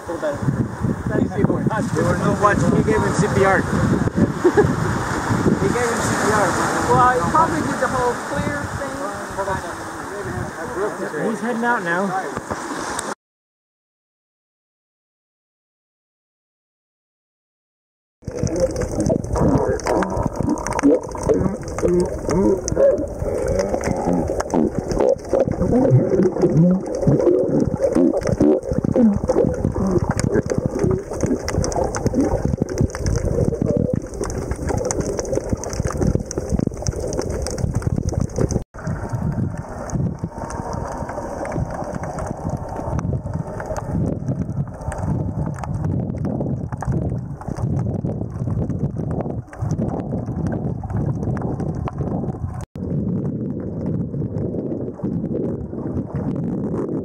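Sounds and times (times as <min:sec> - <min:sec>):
underwater rush of water and bubbles: 0:00.0 - 0:11.0, 0:11.6 - 0:13.2, 0:18.2 - 0:57.0.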